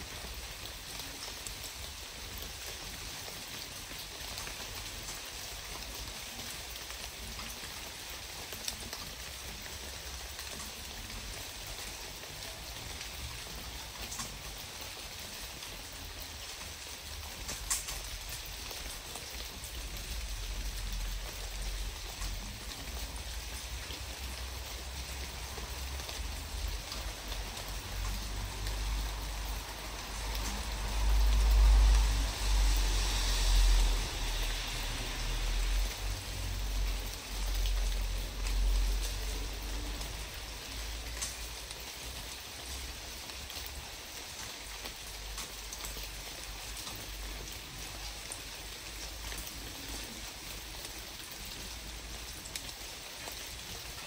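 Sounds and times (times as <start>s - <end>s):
rushing outdoor hiss: 0.0s - 54.0s.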